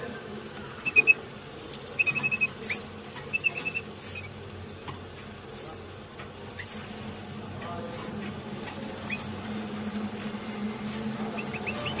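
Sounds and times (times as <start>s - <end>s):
nestlings cheeping: 0.4s - 12.0s.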